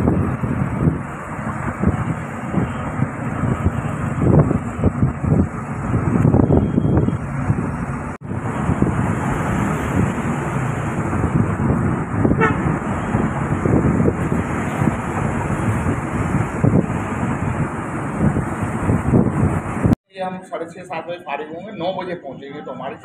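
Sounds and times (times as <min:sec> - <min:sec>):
car road noise and wind: 0:00.0 - 0:20.0.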